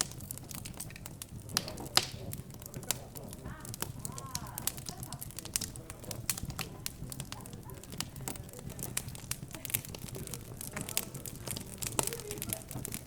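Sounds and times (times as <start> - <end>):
murmur of background chatter: 0.0 - 13.0
wood fire crackling: 0.0 - 13.0.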